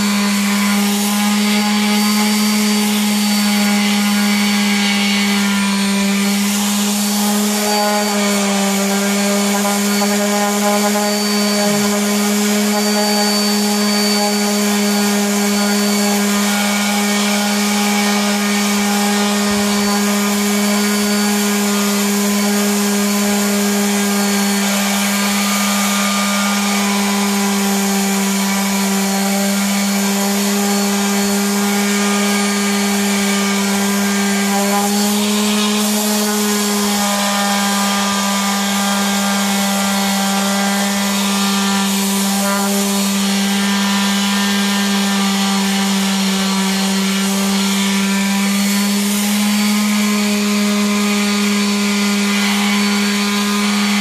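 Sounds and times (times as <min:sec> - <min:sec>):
orbital sander grinding: 0:00.0 - 0:54.0.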